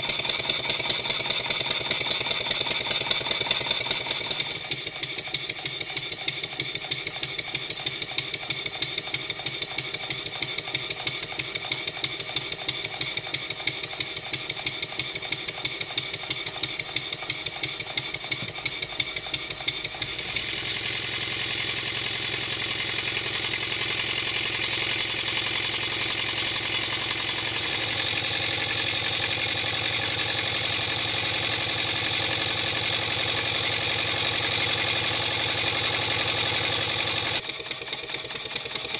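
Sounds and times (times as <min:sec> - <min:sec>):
mechanical clatter: 0:00.0 - 0:38.9
steam engine exhaust beats: 0:00.0 - 0:38.9.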